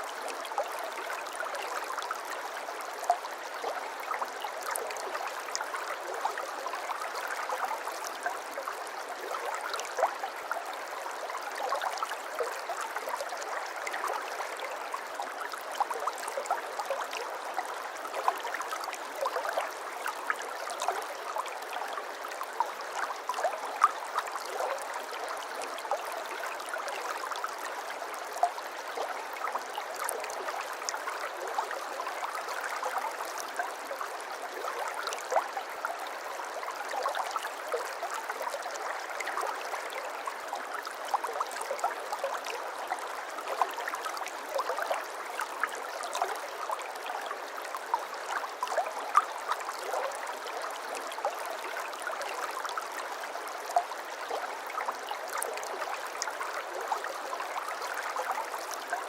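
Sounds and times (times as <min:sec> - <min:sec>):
stream water babbling: 0:00.0 - 0:59.0.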